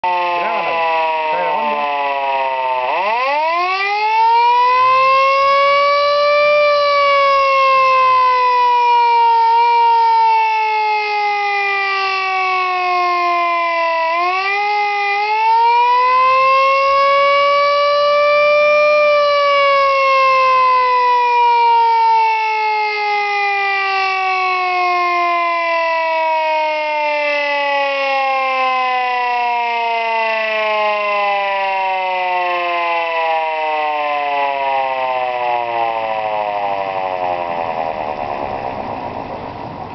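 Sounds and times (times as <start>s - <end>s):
rotor siren wailing: 0.0s - 39.9s.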